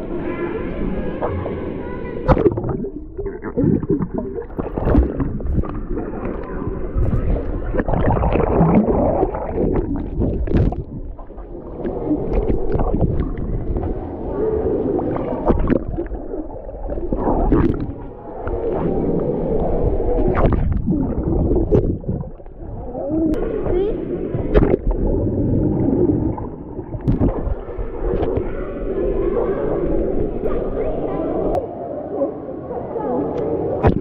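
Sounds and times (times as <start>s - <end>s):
muffled water sloshing and bubbling: 0.0s - 32.7s, 33.3s - 34.0s.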